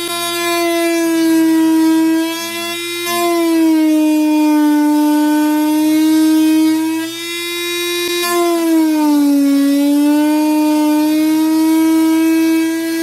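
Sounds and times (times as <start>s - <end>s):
power sander motor whining: 0.0s - 13.0s.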